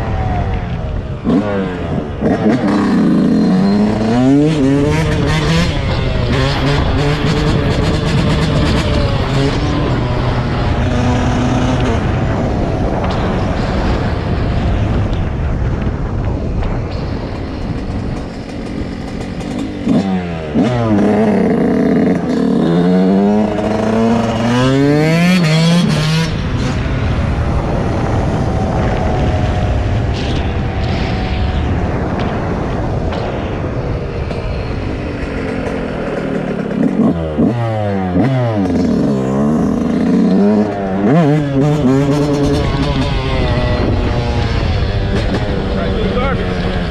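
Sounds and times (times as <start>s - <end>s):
dirt bike engine revving: 0.1s - 14.4s, 17.2s - 46.9s.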